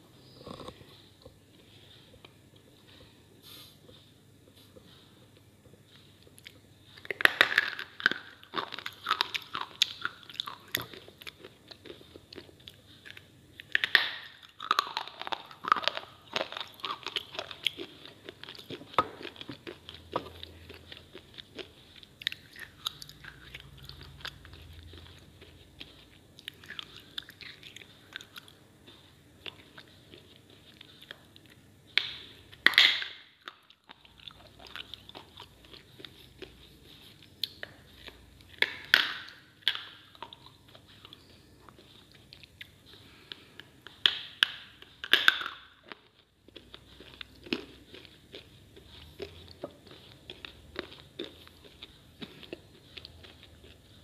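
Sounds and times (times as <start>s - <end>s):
crunchy biting and chewing: 6.2s - 54.0s.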